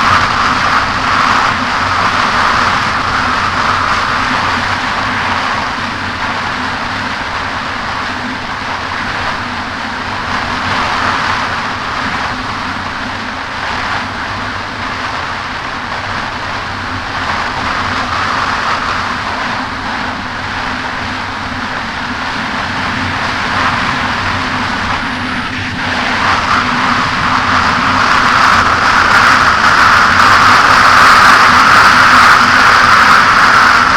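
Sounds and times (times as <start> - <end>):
jet ski engine humming: 0.0 - 33.9
rush of wind and water: 0.0 - 33.9.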